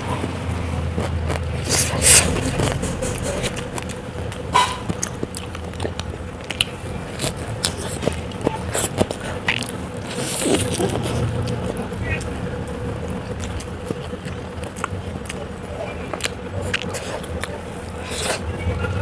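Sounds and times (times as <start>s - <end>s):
crunchy snaps: 0.0s - 18.5s
biting and chewing food: 0.0s - 19.0s
steady low hum: 0.0s - 19.0s.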